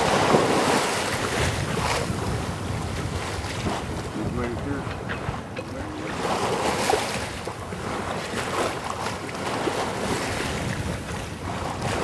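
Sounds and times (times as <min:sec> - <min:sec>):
waves washing past a boat: 0:00.0 - 0:12.0
wind rushing over microphone: 0:00.0 - 0:12.0.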